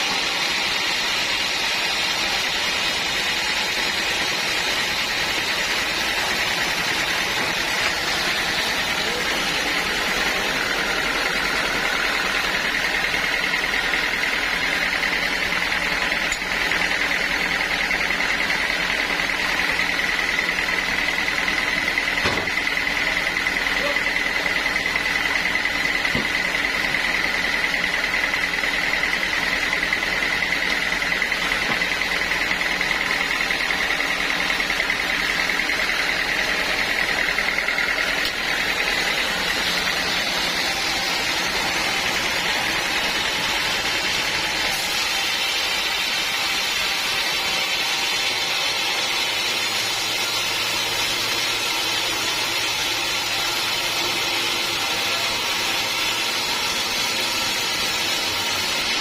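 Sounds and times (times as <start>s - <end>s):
sawmill saw cutting wood: 0.0s - 59.0s.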